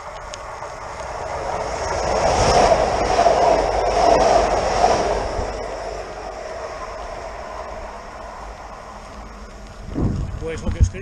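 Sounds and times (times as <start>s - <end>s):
electric train passing: 0.0s - 10.6s.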